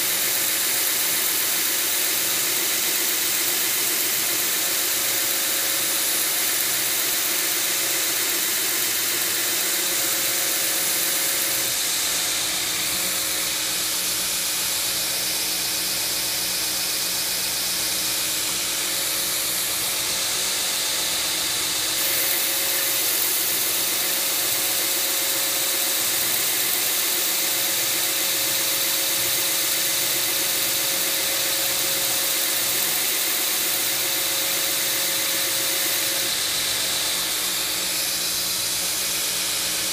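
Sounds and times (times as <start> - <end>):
belt grinder hissing on steel: 0.0 - 39.9.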